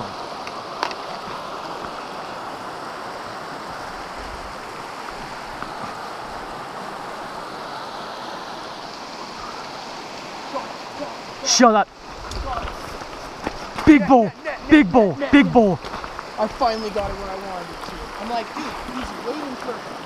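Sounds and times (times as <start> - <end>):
creek rushing over rocks: 0.0 - 20.0.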